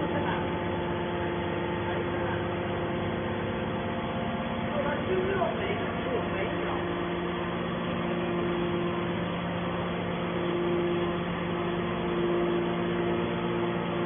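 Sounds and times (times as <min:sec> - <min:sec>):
hydraulic baler machine drone: 0:00.0 - 0:14.0.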